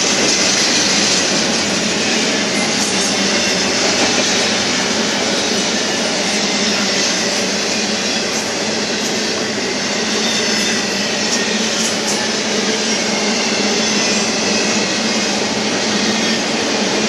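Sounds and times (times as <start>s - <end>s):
steel wheels rolling on rails: 0.0s - 17.0s.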